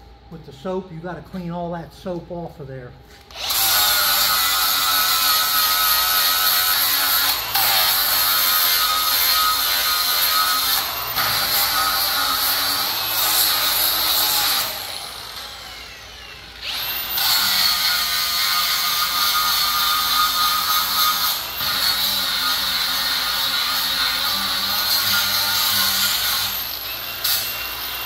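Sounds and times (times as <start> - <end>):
angle grinder grinding metal: 3.3 - 28.0.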